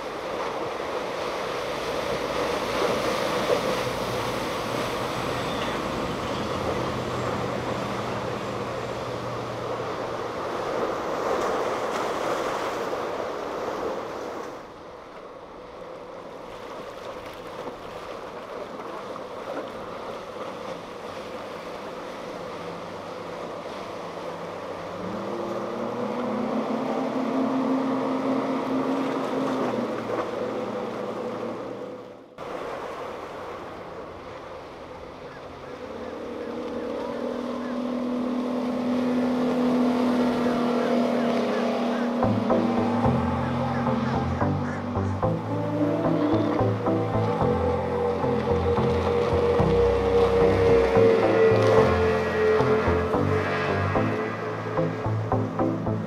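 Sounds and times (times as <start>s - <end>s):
droning boat engines: 0.0s - 56.0s
outboard engine passing: 0.0s - 56.0s
surf washing at jetty: 0.0s - 56.0s.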